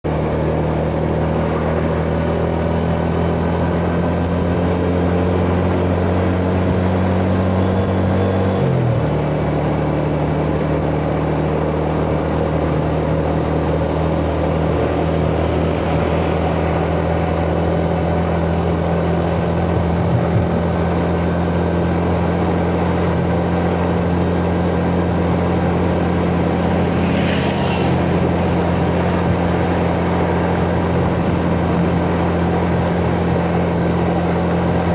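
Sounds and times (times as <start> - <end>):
road and wind noise: 0.0 - 34.9
motorcycle engine running: 0.1 - 34.9.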